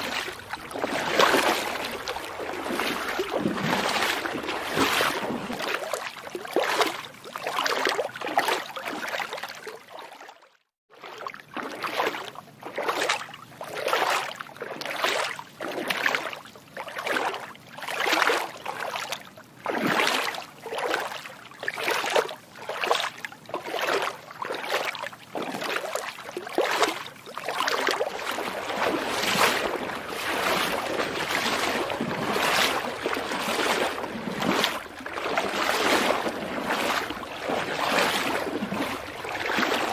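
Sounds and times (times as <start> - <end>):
feet wading through water: 0.0 - 39.9.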